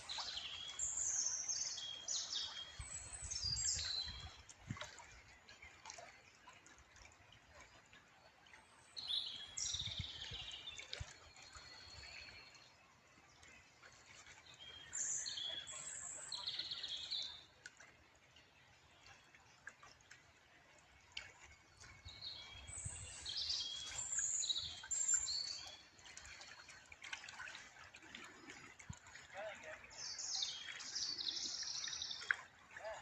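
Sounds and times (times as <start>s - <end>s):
songbirds chirping: 0.0s - 33.0s
water trickling: 0.0s - 33.0s.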